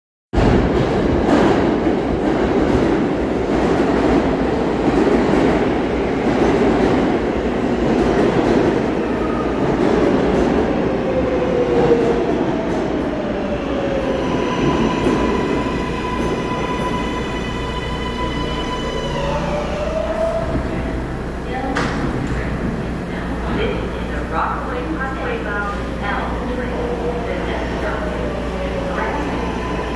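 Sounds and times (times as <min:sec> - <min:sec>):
subway train wheels rumbling on rails: 0:00.4 - 0:29.9.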